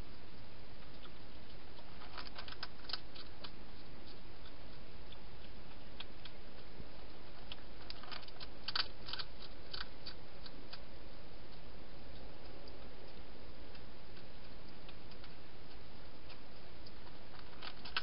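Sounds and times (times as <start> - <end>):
steady hiss: 0.0 - 18.0
hedgehog crunching dry food: 0.8 - 18.0.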